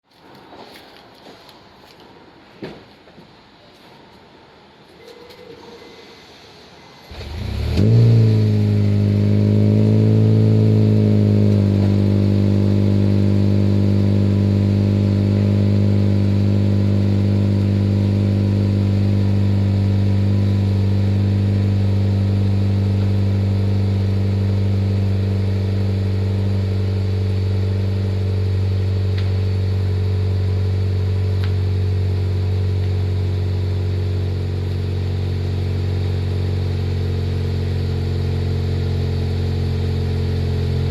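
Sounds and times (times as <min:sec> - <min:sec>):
car engine cold-starting and idling: 0:07.0 - 0:40.9.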